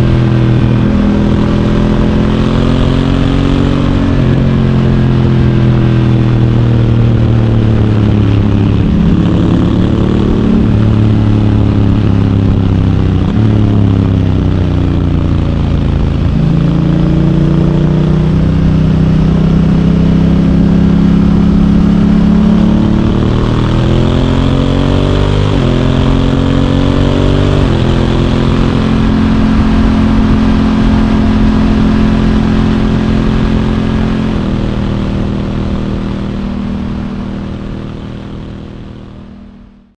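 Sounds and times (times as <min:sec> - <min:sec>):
wind noise: 0:00.0 - 0:39.7
road noise: 0:00.0 - 0:39.9.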